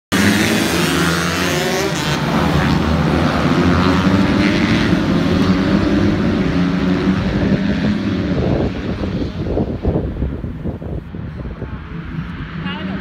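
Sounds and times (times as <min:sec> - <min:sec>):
racing motorcycles at high revs: 0:00.1 - 0:10.6.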